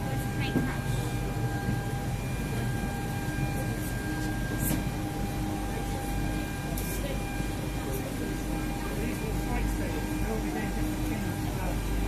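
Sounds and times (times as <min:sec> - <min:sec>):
high-pitched whine: 0:00.0 - 0:12.0
ventilation hum: 0:00.0 - 0:12.0.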